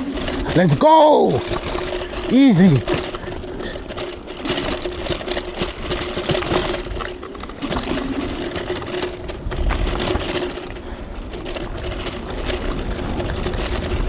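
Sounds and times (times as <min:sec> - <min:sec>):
electric scooter motor whine: 0:00.0 - 0:14.0
scooter rattling over rough ground: 0:00.0 - 0:14.0.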